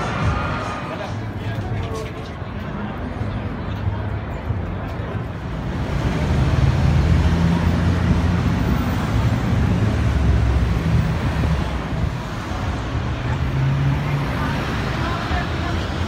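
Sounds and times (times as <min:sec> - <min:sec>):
cars and van driving past: 0:00.0 - 0:01.8, 0:02.4 - 0:16.0.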